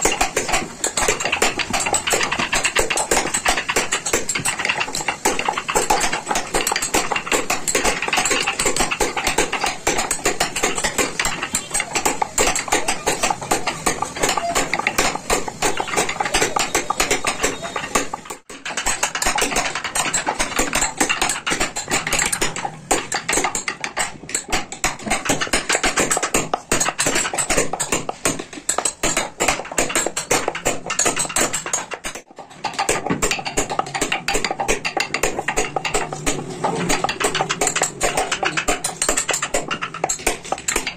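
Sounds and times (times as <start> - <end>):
hammer tapping chisel into wood: 0.0 - 40.9.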